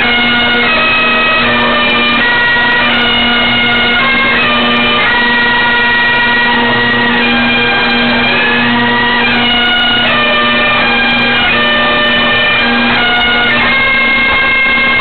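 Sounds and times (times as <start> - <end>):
bagpipe chanter melody: 0.0 - 15.0
bagpipe drones: 0.0 - 15.0.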